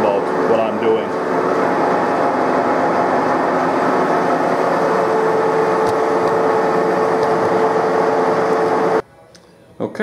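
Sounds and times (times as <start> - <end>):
metal lathe machining: 0.0 - 9.0
steady whine: 0.0 - 9.1.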